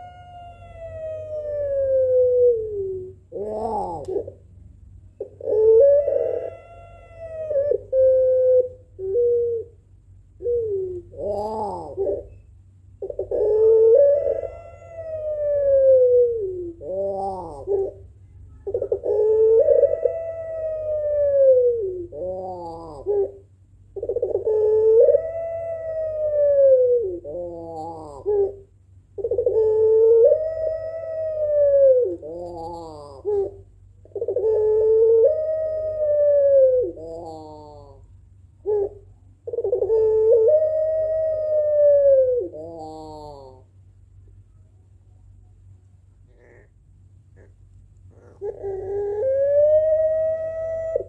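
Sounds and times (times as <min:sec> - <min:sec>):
dove cooing: 0:00.0 - 0:04.5, 0:05.1 - 0:43.8, 0:46.2 - 0:51.0.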